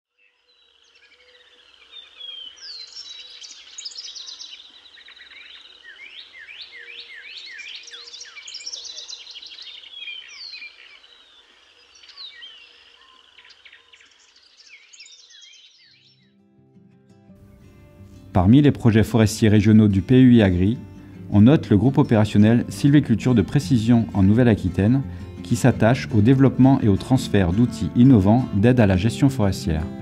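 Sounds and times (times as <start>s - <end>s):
songbirds chorus chirping: 0.1s - 16.4s, 17.4s - 30.0s.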